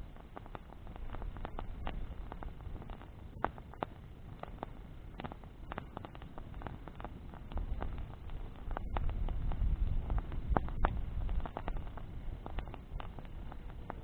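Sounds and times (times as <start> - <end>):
bonfire crackling and popping: 0.0 - 14.0
hiss of flames: 0.0 - 14.0
low rumble: 0.0 - 14.0.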